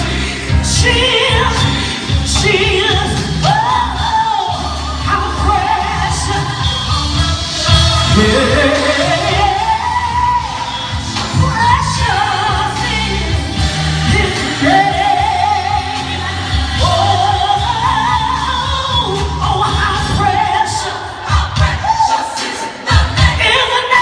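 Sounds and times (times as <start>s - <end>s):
woman singing with vibrato: 0.0s - 22.4s.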